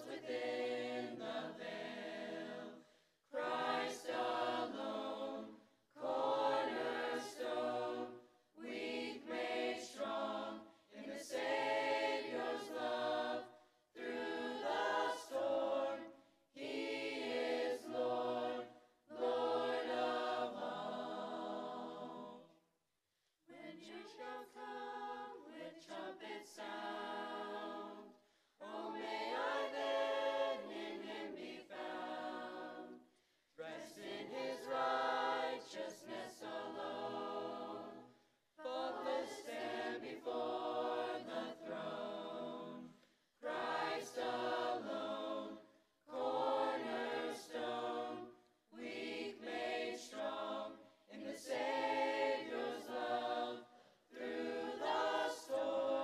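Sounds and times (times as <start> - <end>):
youth chorus singing: 0.0 - 22.6, 23.5 - 33.0, 33.6 - 56.0.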